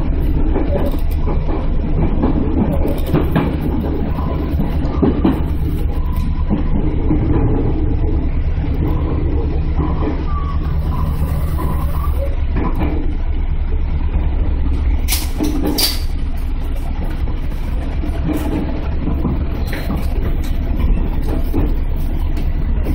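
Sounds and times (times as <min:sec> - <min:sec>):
wheels rumbling on track: 0:00.0 - 0:22.9.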